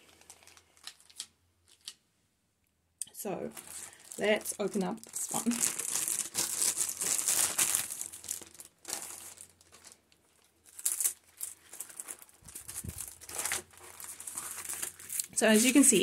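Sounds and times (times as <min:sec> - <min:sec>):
plastic packaging crinkling: 0:00.0 - 0:02.0, 0:03.3 - 0:16.0.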